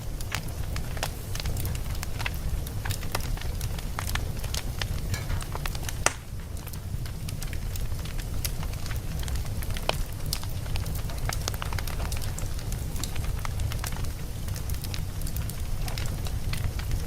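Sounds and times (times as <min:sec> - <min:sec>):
fire crackles and snaps: 0:00.0 - 0:17.0
flames rumbling: 0:00.0 - 0:17.0.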